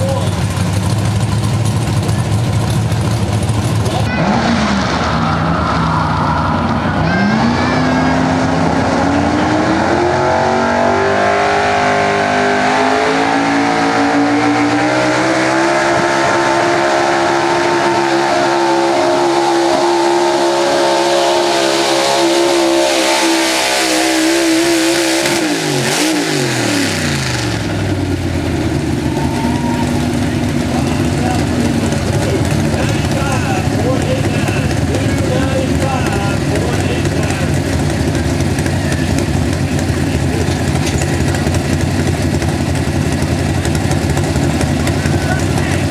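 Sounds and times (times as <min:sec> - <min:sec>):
truck engine at full throttle: 0:00.0 - 0:45.9.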